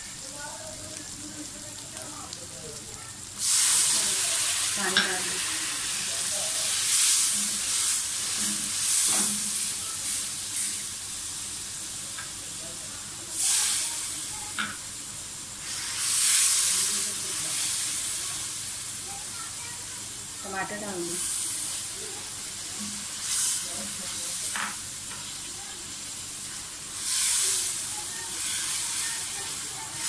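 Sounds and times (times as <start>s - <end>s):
spices and onion sizzling in ghee: 0.0s - 30.0s.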